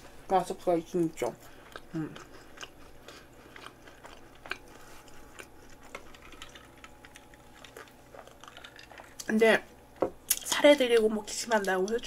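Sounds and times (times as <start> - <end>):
faint chewing: 0.2 - 12.0.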